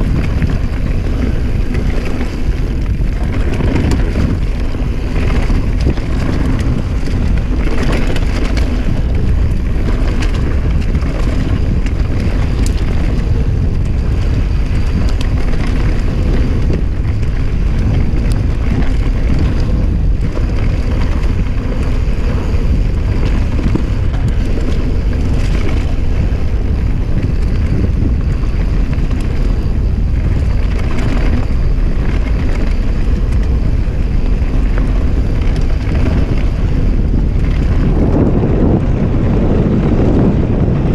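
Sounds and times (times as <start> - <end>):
bike rattling over bumps: 0.0 - 40.9
tyres rolling on dirt trail: 0.0 - 40.9
wind buffeting microphone: 0.0 - 40.9.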